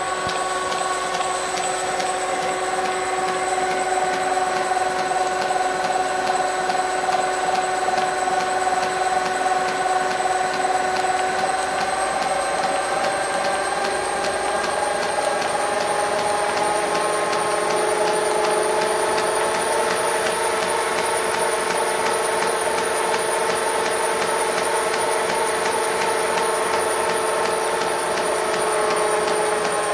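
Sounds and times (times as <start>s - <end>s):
lathe motor whining: 0.0s - 29.9s.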